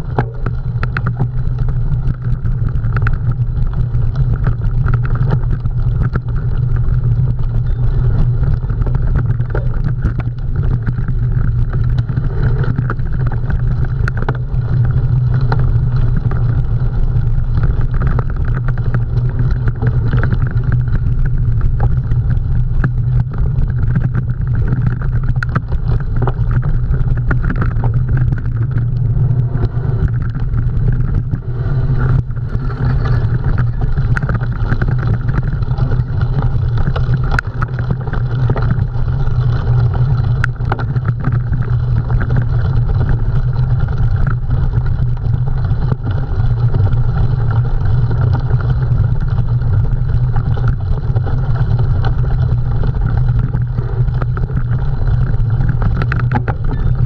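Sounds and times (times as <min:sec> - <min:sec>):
bike clicks and rattles: 0:00.0 - 0:57.0
wind rush and rumble: 0:00.0 - 0:57.0.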